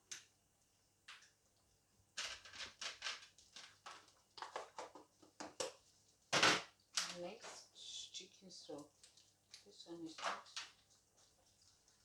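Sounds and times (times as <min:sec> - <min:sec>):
rustling and scraping in kitchen: 0:02.1 - 0:12.0.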